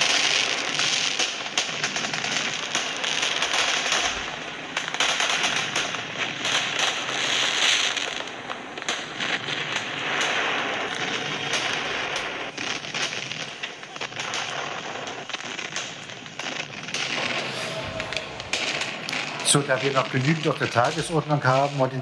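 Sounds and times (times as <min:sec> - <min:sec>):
recorded firecrackers crackling: 0:00.0 - 0:22.0.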